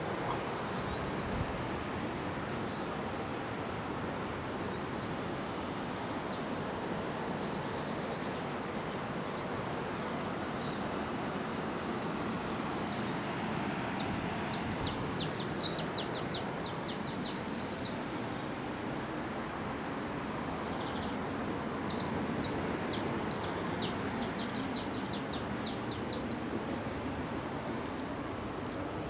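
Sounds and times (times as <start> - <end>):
small birds chirping: 0.0 - 3.8, 4.6 - 5.3, 7.4 - 29.0.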